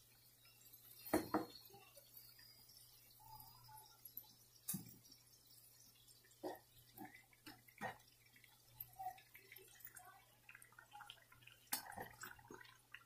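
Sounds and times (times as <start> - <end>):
oil crackling and popping: 0.0 - 13.0.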